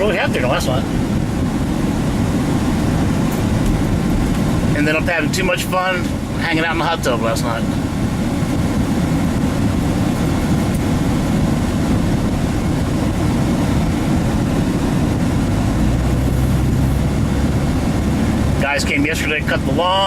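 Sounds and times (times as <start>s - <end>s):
low engine drone: 0.0s - 20.0s
road and engine rumble: 0.0s - 20.0s.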